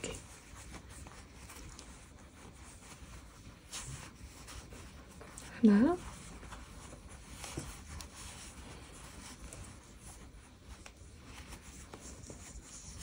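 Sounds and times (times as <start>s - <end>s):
yarn rustling and rubbing: 0.0s - 13.0s.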